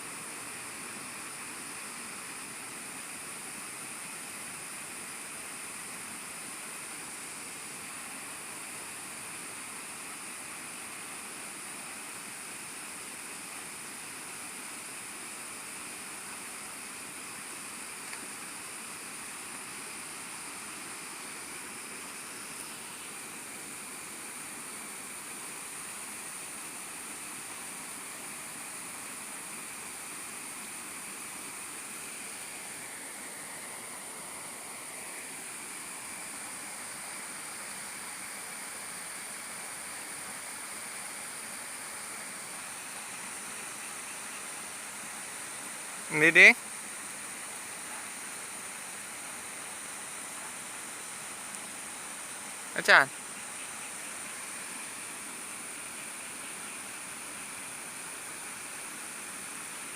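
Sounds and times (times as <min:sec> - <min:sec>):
outdoor background hiss: 0:00.0 - 0:59.9.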